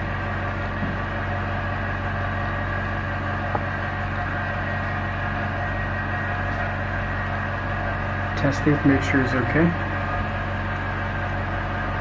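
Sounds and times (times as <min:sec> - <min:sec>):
workshop machinery hum: 0:00.0 - 0:12.0.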